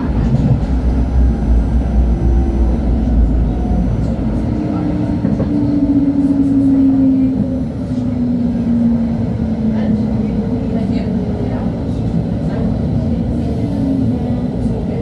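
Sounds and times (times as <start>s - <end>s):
light-rail car rumbling on track: 0.0s - 15.0s.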